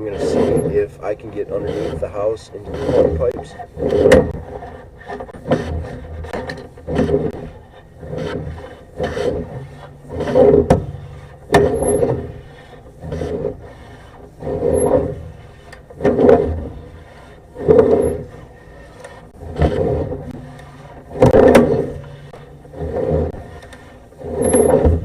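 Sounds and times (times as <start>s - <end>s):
cable scraping along pipe: 0.0s - 25.0s.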